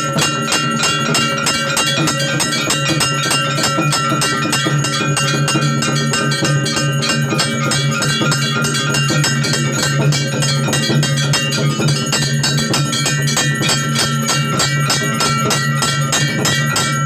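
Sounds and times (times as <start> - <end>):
temple bells and percussion clanging: 0.0 - 17.0.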